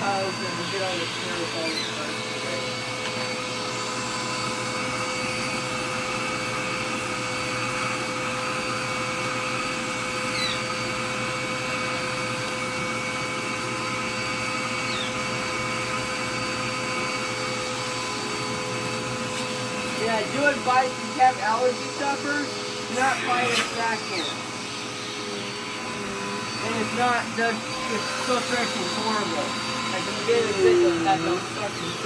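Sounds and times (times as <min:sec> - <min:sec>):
vacuum cleaner motor running: 0:00.0 - 0:32.0.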